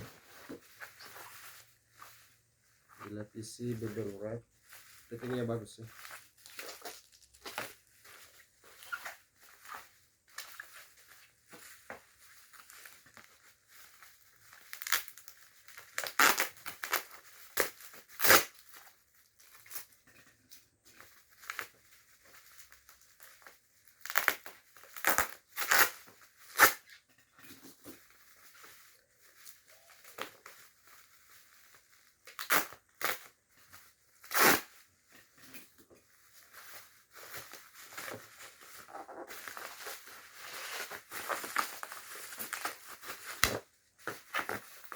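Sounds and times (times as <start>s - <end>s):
plastic packaging crinkling: 0.0s - 44.9s.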